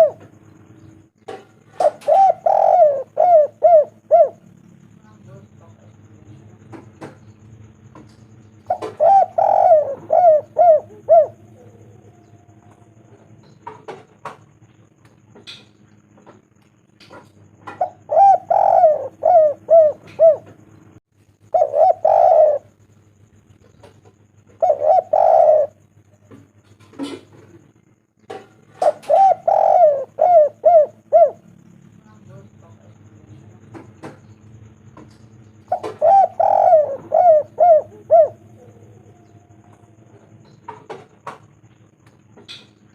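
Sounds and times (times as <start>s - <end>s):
dove cooing: 0.0s - 14.8s, 17.1s - 27.7s, 28.3s - 32.1s, 33.4s - 42.9s.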